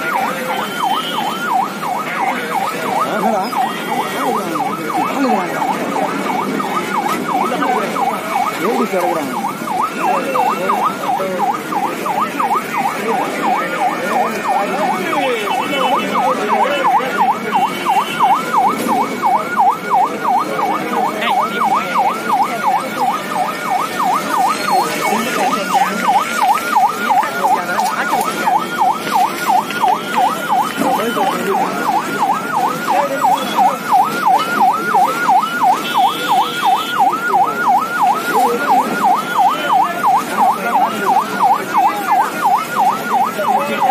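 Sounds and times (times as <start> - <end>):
emergency siren yelping: 0.0 - 43.9.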